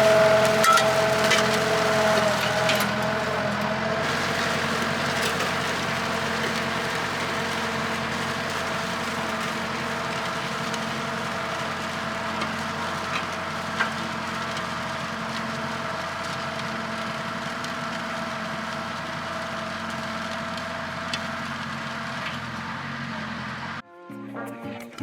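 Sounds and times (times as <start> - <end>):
engine running steadily: 0.0 - 23.8.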